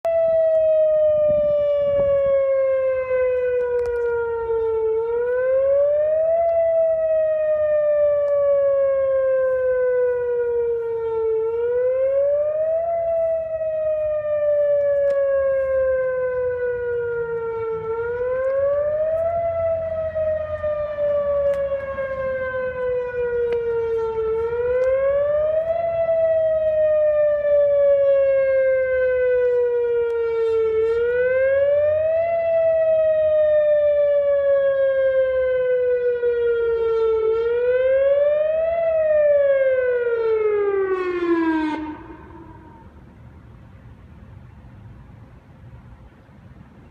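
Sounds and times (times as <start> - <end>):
fire siren wailing: 0.0 - 44.6.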